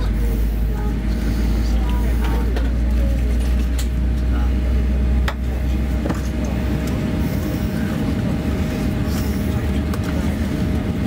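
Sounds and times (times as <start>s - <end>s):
aircraft cabin rumble: 0.0s - 11.0s
faint passenger voices: 0.0s - 11.0s.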